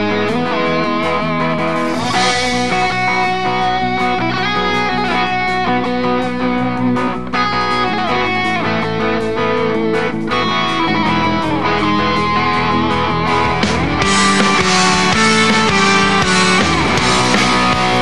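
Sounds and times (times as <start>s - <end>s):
drums: 0.0s - 18.0s
electric guitar: 0.0s - 18.0s.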